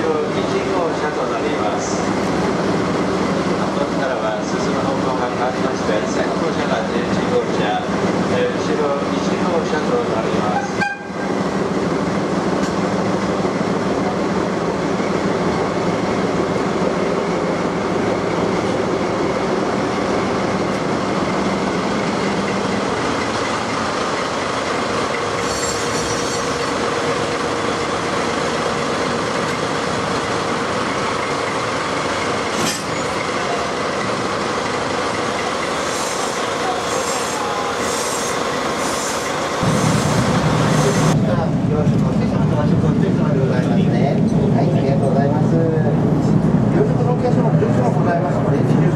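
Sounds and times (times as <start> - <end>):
diesel locomotive engine running: 0.0 - 48.9.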